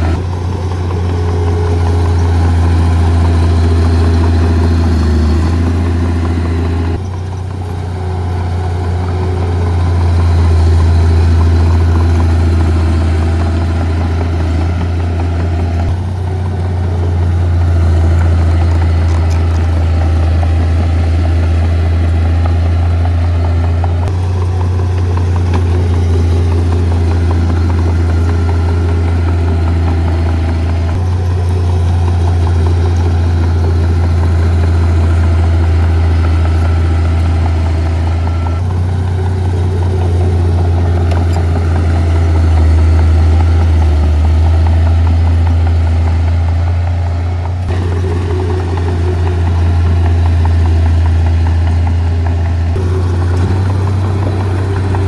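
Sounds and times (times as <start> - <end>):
heavy diesel engine drone: 0.0 - 55.0.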